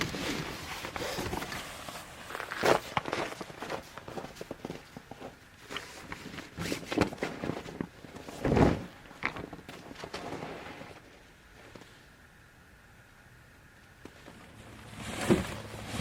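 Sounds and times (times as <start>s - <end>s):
handling knocks and rustles: 0.0s - 11.9s, 14.0s - 16.0s.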